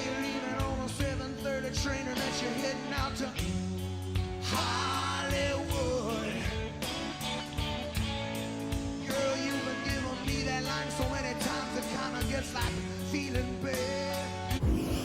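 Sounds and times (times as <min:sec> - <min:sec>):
pop-rock song with vocals: 0:00.0 - 0:15.0.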